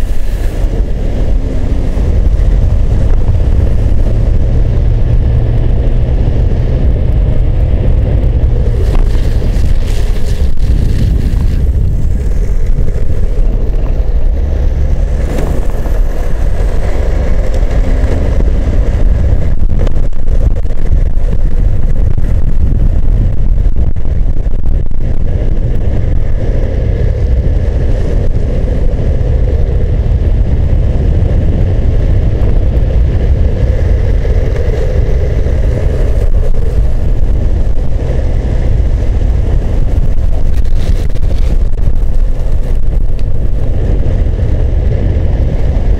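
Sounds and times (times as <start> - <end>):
longboard wheels rolling on asphalt: 0.0 - 45.9
wind buffeting on microphone: 0.0 - 45.9.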